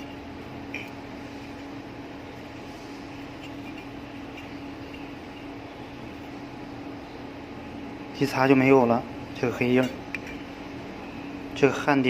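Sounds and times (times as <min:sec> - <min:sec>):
machine hum with fan noise: 0:00.0 - 0:12.0.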